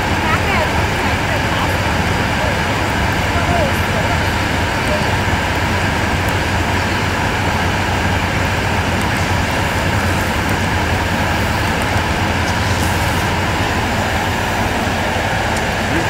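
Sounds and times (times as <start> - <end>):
furnace mechanical drone: 0.0 - 16.0.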